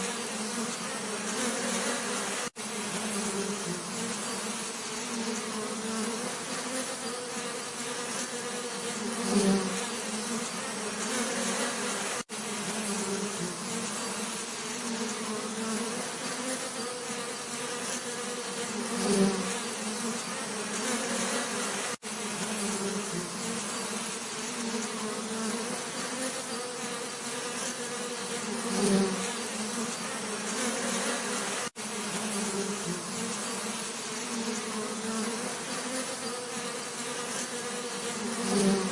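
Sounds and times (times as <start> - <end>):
bee buzzing close by: 0.0 - 38.9
bees buzzing: 0.0 - 38.9.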